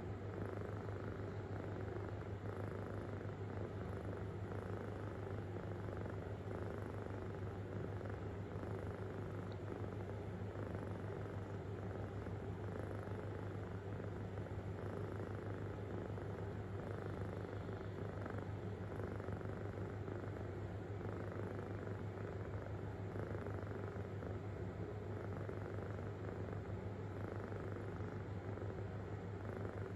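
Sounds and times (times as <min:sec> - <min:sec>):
kitten purring: 0:00.0 - 0:29.9.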